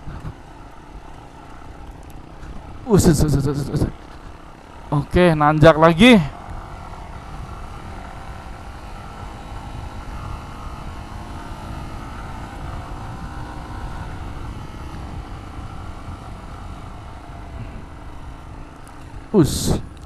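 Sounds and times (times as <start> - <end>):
motorcycle engine pulling uphill: 0.0 - 20.0.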